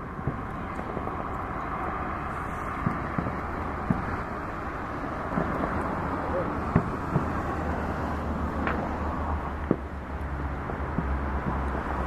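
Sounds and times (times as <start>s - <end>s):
distant fireworks booming: 0.0s - 12.0s.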